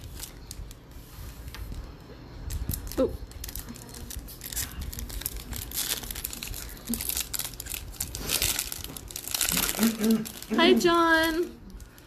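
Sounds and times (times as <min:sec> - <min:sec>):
plastic wrapper tearing: 0:00.0 - 0:00.8, 0:02.4 - 0:12.0
plastic wrapper crinkling: 0:00.0 - 0:12.0.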